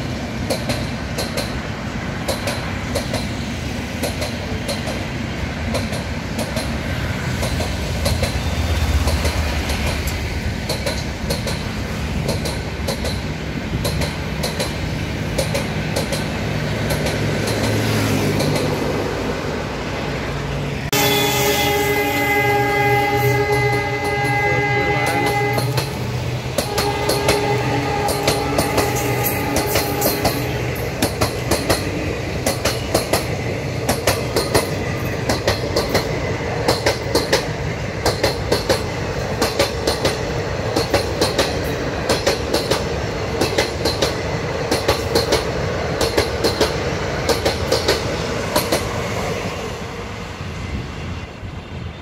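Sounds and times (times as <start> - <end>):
train wheels clattering: 0.4 - 1.6, 2.2 - 5.1, 5.7 - 19.0, 23.0 - 49.2.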